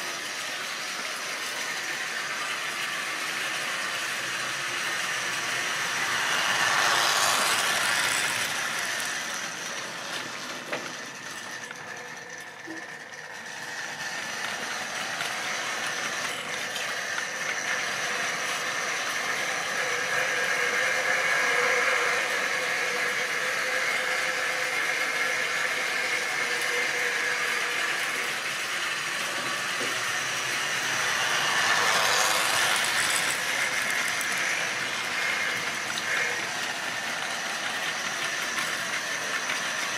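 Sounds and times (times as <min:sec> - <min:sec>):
model train motor whirring: 0:00.0 - 0:39.9
wagons rattling over track: 0:00.0 - 0:39.9.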